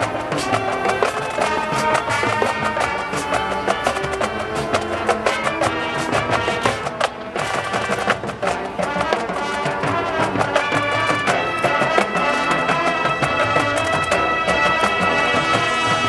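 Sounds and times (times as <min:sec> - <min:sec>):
brass and woodwinds playing chords: 0:00.0 - 0:16.0
drumline beating: 0:00.0 - 0:16.0.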